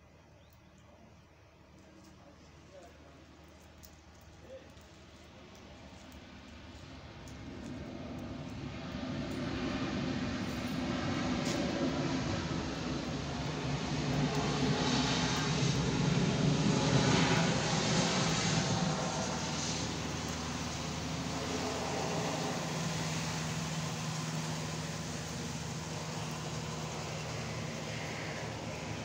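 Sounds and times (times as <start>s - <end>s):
jet engines rumbling and hissing: 0.0s - 29.0s.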